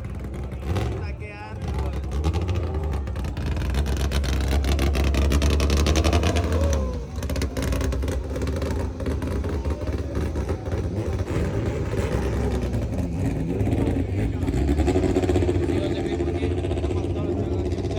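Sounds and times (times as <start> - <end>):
car engine accelerating hard: 0.0 - 17.9.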